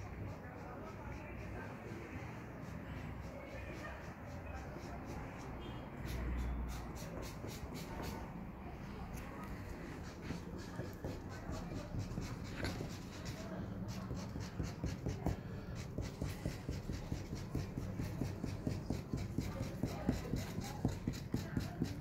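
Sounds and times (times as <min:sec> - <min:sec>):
marker scratching on paper: 0:00.2 - 0:08.4, 0:09.2 - 0:22.0.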